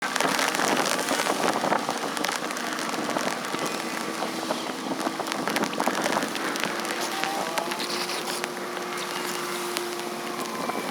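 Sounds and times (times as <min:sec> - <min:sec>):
water pattering and splashing: 0:00.0 - 0:10.9.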